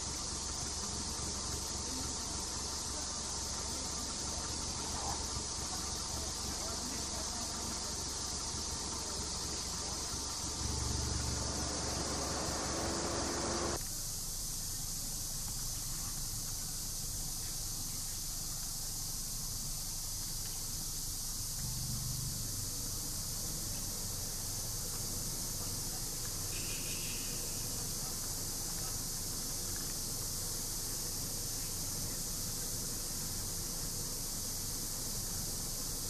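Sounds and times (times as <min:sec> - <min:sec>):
high-pitched outdoor hiss: 0:00.0 - 0:36.0.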